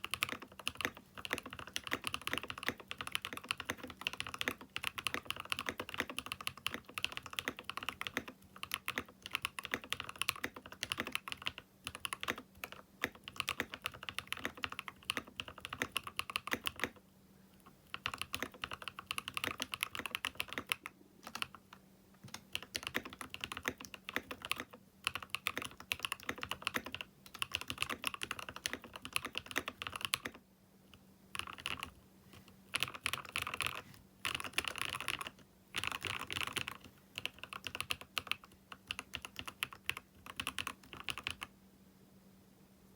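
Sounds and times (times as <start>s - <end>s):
mechanical keyboard typing: 0.0s - 17.0s, 17.9s - 30.4s, 31.3s - 32.0s, 32.7s - 41.5s.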